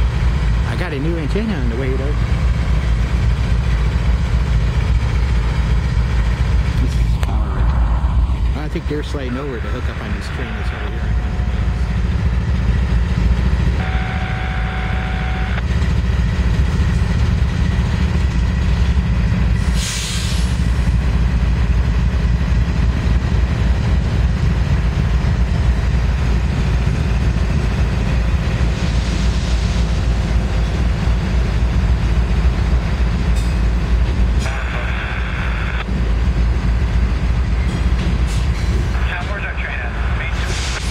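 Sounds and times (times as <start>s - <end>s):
diesel locomotive engines rumbling: 0.0s - 40.9s.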